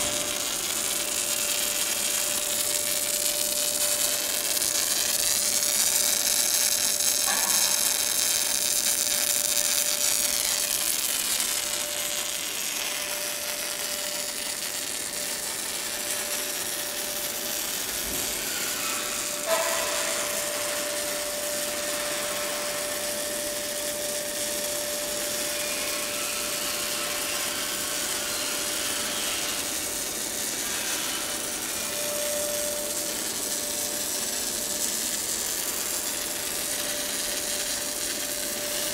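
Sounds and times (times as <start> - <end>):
welding arc buzzing crackle: 0.0 - 38.9.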